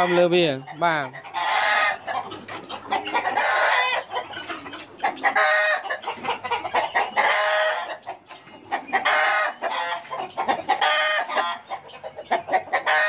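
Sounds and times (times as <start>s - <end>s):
chickens calling: 0.0s - 13.0s.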